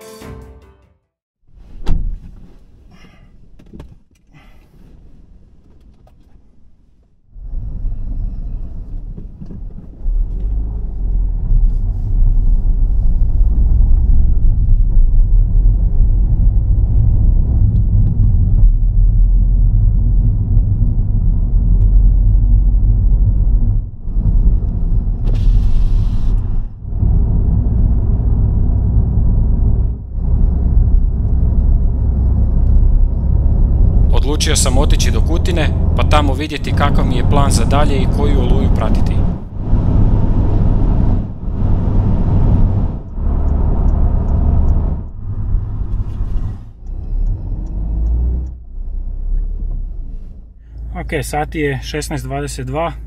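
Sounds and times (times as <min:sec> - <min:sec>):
car road and engine rumble: 0:01.5 - 0:53.0.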